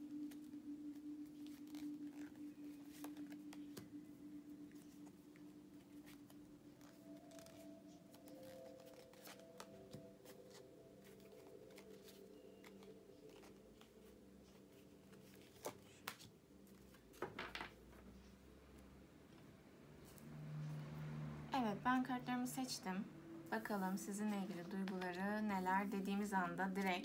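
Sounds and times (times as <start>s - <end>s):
faint background music: 0.0s - 27.0s.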